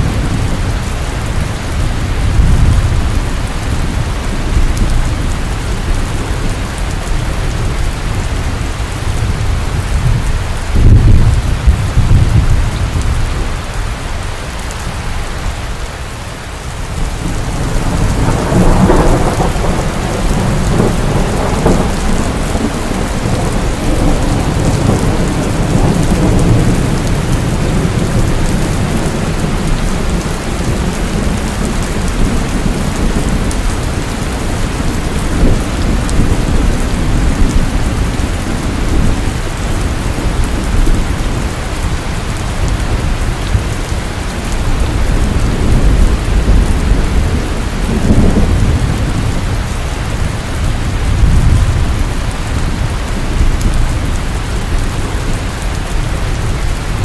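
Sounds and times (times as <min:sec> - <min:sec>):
thunder rolling: 0:00.0 - 0:13.5, 0:16.9 - 0:57.0
heavy rain falling: 0:00.0 - 0:57.0.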